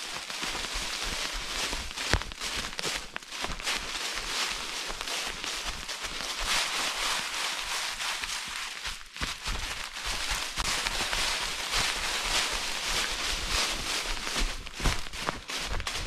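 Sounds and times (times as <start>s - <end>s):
footsteps on dirt path: 0.0s - 16.0s.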